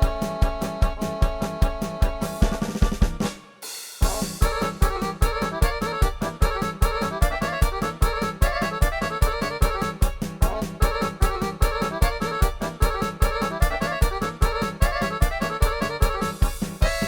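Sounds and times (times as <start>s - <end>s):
accordion melody on keyboard: 0.0s - 17.0s
fast drum beat: 0.0s - 17.0s.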